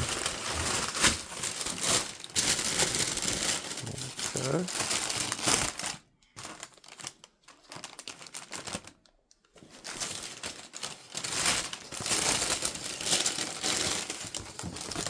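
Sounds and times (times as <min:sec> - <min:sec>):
wrapping paper rustling: 0:00.0 - 0:15.0.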